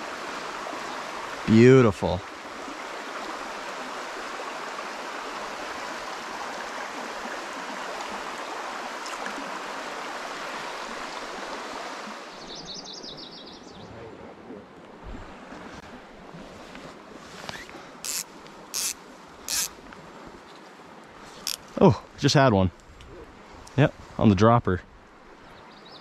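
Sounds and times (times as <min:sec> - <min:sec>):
mountain stream flowing: 0:00.0 - 0:12.8, 0:14.1 - 0:26.0.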